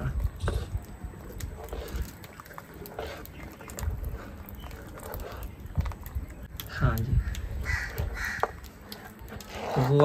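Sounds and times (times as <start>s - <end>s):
spoon stirring and scraping pan: 0.1s - 6.5s, 7.9s - 10.0s.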